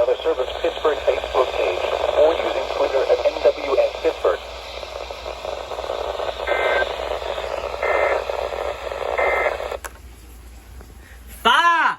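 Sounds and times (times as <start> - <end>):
buzzy two-tone data bursts: 0.0 - 9.8
radio static hiss: 0.0 - 10.0.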